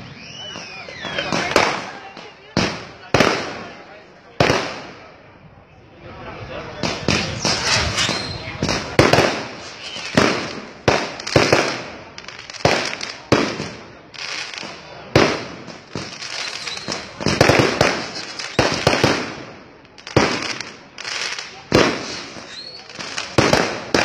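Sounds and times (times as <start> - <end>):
fireworks bangs: 0.0 - 5.3, 6.8 - 24.0.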